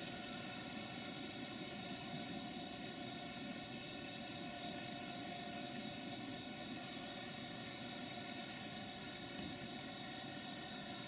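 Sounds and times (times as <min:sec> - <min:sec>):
mechanical drone with steady tones: 0:00.0 - 0:11.0.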